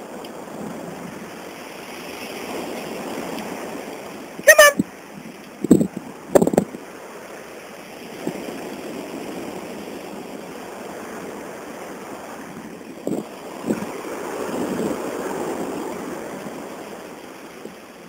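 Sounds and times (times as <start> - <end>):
surf rushing on beach: 0.0 - 18.0.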